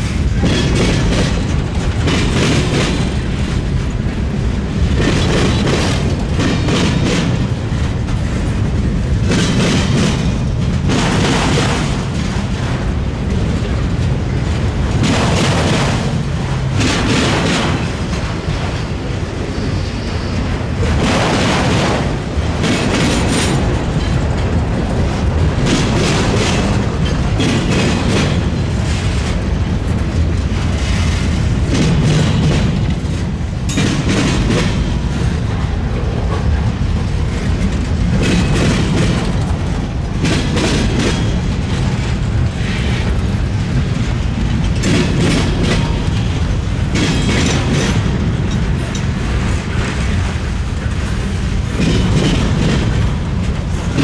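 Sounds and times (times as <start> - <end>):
freight train rumbling: 0.0 - 54.0
train wheels banging on crossing: 0.0 - 54.0.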